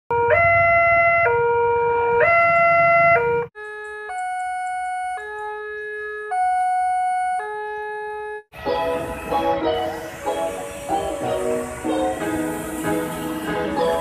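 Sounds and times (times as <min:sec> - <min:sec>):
quieter two-tone crossing siren: 0:00.1 - 0:14.0
two-tone level crossing siren: 0:00.1 - 0:14.0.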